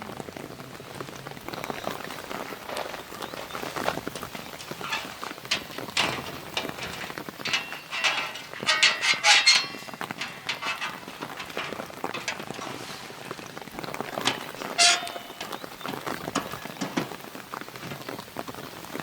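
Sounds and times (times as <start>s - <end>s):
camping gear clicking and knocking: 1.5s - 19.0s.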